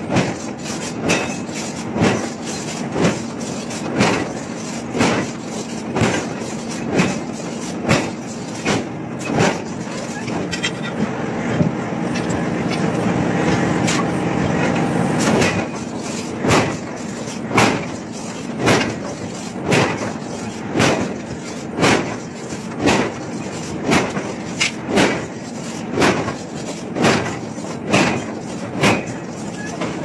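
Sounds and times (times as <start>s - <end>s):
forging press strokes: 0.0s - 10.9s, 14.7s - 30.0s.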